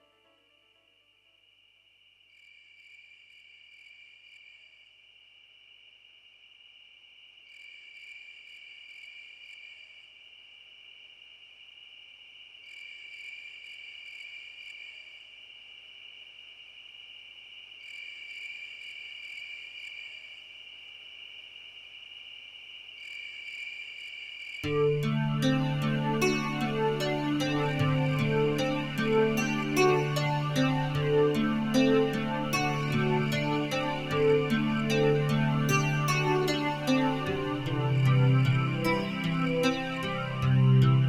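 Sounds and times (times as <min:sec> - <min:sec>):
crickets chirring: 0:00.8 - 0:41.0.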